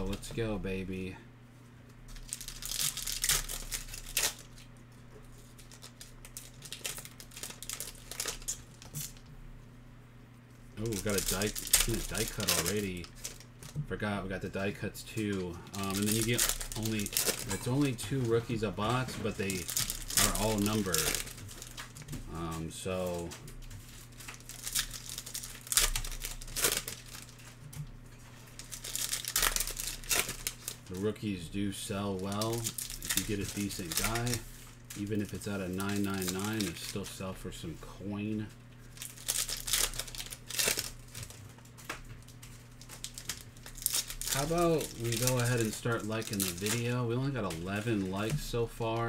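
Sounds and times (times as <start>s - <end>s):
foil wrapper tearing: 2.1s - 4.7s, 5.4s - 9.3s, 10.8s - 13.8s, 15.2s - 27.8s, 28.4s - 31.2s, 31.8s - 37.4s, 38.8s - 49.0s
wrapper crinkling: 2.1s - 9.3s, 10.8s - 13.8s, 15.2s - 37.3s, 38.7s - 49.0s.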